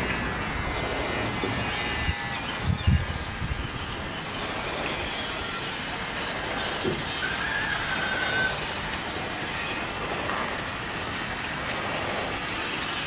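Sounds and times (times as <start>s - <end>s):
mechanical running noise: 0.0s - 13.0s.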